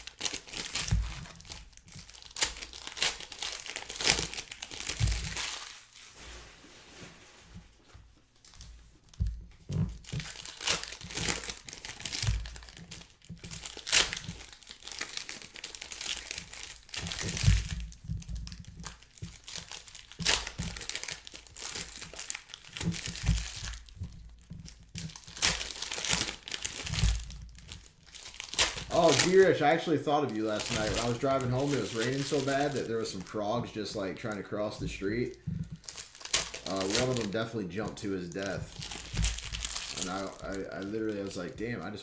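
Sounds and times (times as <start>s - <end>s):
wrappers crinkling and tearing: 0.0s - 7.5s, 8.3s - 42.0s.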